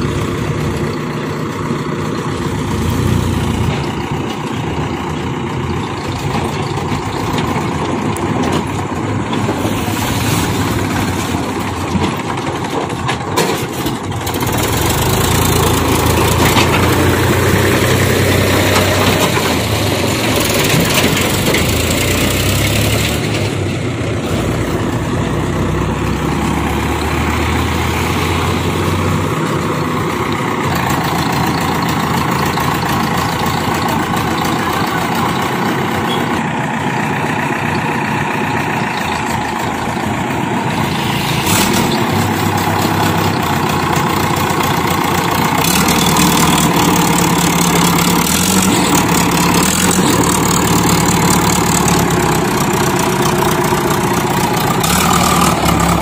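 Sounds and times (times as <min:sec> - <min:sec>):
backhoe diesel engine running: 0:00.0 - 0:56.0.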